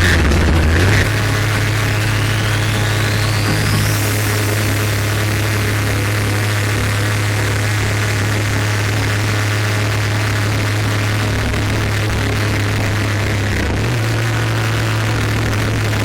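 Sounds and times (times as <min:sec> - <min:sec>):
rushing noise: 0:00.0 - 0:16.0
two-stroke engine buzzing: 0:00.0 - 0:16.0.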